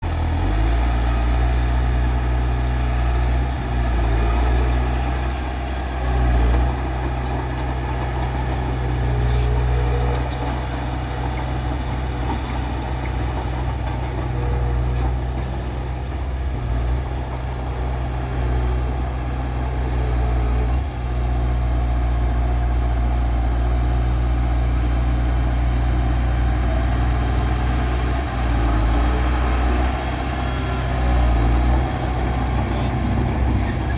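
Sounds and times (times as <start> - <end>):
diesel engine rumbling: 0.0 - 33.9.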